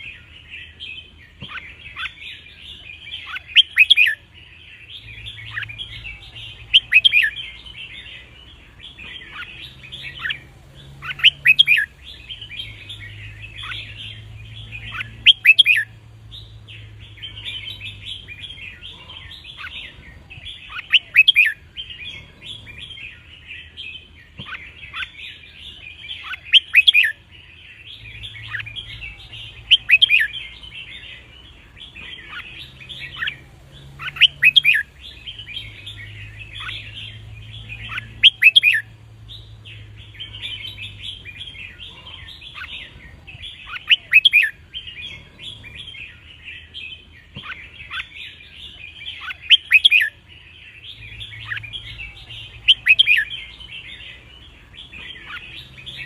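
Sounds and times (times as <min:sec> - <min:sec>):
birds chattering: 0:00.0 - 0:56.0
loud sharp birdsong phrase: 0:00.0 - 0:56.0.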